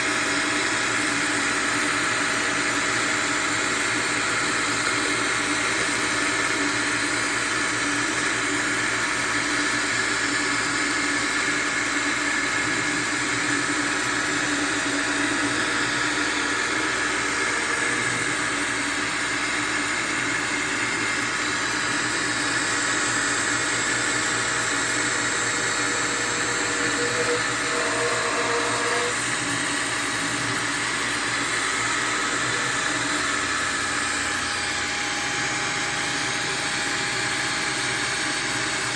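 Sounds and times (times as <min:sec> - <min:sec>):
milling machine spindle whirring: 0:00.0 - 0:38.9.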